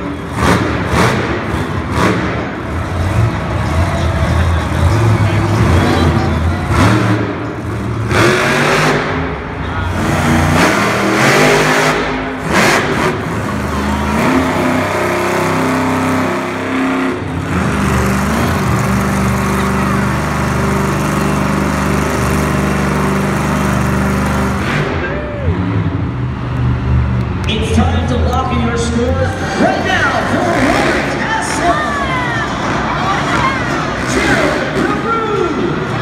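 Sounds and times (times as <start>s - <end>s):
truck engine revving hard: 0.0s - 28.2s, 28.8s - 36.0s.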